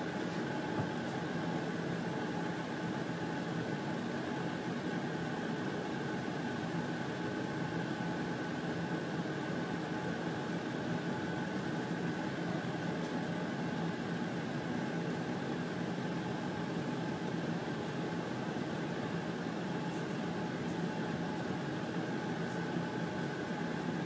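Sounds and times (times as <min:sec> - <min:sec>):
mechanical hum and whir: 0:00.0 - 0:24.0.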